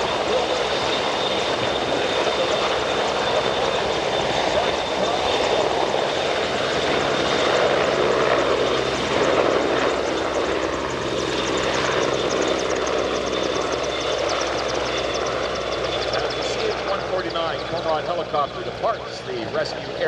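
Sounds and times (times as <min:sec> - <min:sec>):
helicopter rotor drone: 0:00.0 - 0:20.0
turbine whine: 0:00.0 - 0:20.0.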